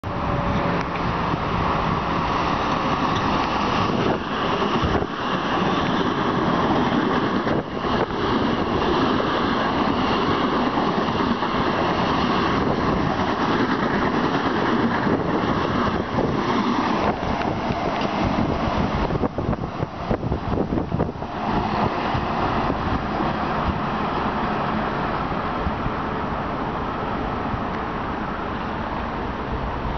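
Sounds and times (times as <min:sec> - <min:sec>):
train rushing past: 0:00.0 - 0:29.9.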